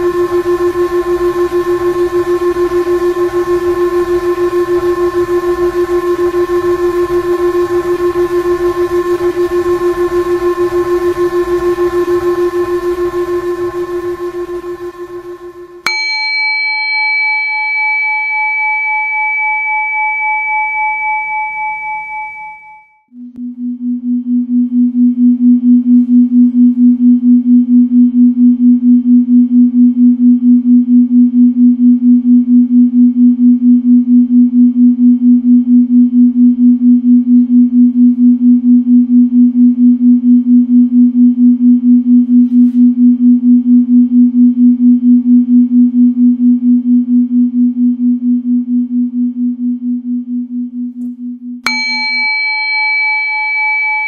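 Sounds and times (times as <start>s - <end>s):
pulsing pure tone: 0.0s - 16.3s, 18.9s - 54.0s.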